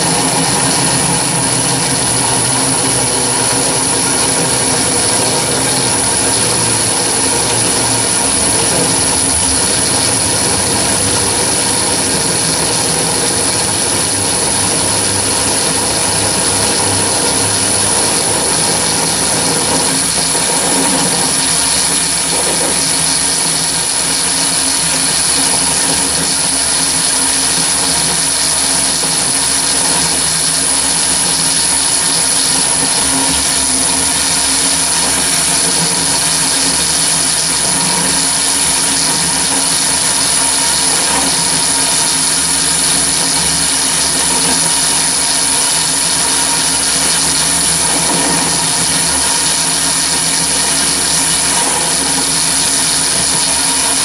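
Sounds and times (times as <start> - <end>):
drill boring into steel: 0.0 - 54.0
high-pitched whine: 0.0 - 54.0
lathe running: 0.0 - 54.0.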